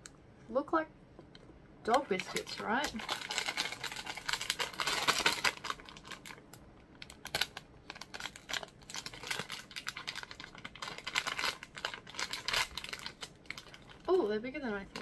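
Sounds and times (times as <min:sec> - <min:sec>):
snack packet crinkling: 0:01.9 - 0:15.0.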